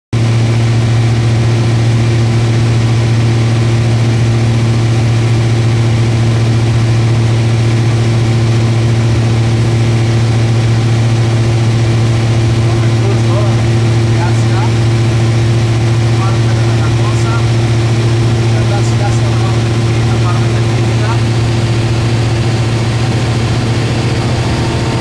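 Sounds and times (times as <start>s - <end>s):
plane engine droning in cabin: 0.2s - 25.0s.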